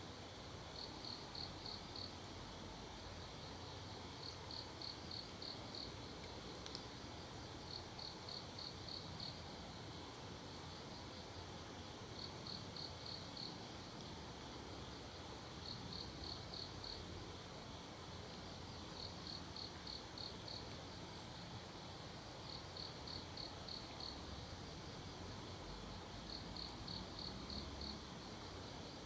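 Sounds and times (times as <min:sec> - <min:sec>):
steady low hiss: 0:00.0 - 0:29.0
crickets chirping: 0:00.2 - 0:29.0.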